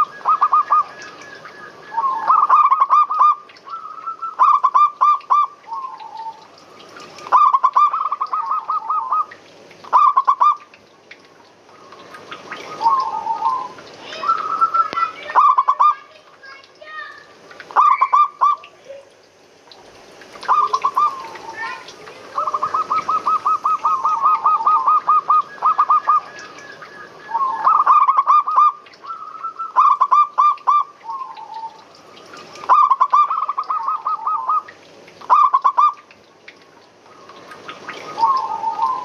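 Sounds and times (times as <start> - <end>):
doves cooing: 0.0 - 10.6, 11.7 - 16.0, 20.4 - 36.0, 37.0 - 39.0.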